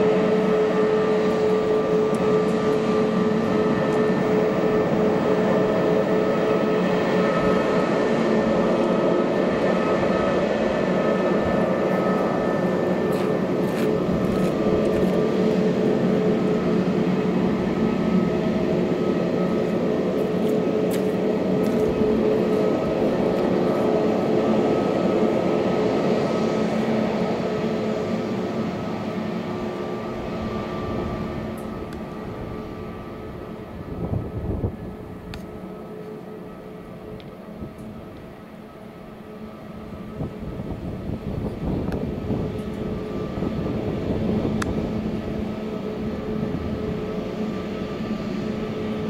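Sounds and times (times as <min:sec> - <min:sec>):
jet engines running: 0:00.0 - 0:49.0.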